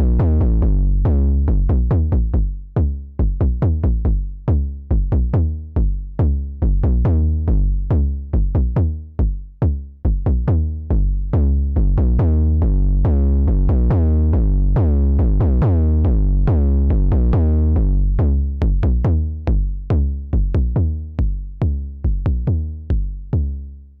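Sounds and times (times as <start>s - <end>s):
synthesizer kick and bass pattern: 0.0s - 23.8s.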